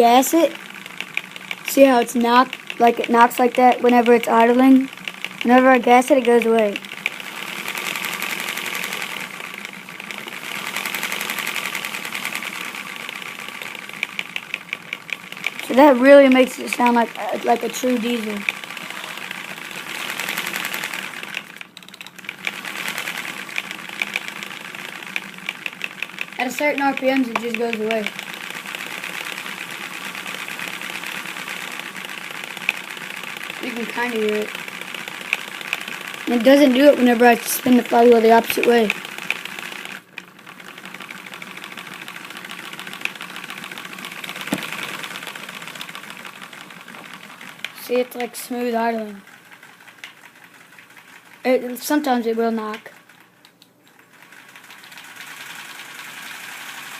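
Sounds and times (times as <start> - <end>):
model engine clattering and knocking: 0.0 - 56.9.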